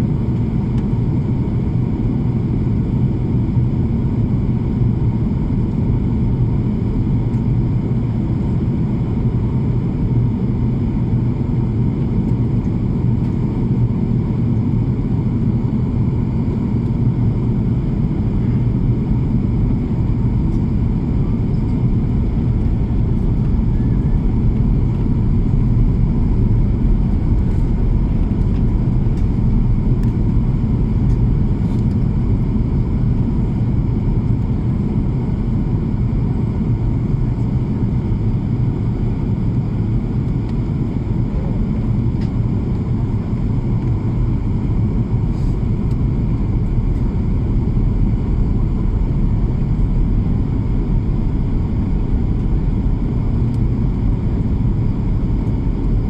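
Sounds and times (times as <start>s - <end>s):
airplane rumble: 0.0s - 56.0s.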